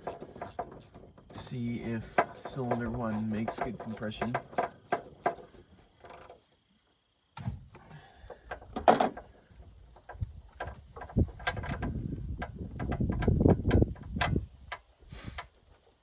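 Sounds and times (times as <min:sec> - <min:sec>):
hand tools clicking and knocking: 0:00.0 - 0:06.4, 0:08.2 - 0:16.0.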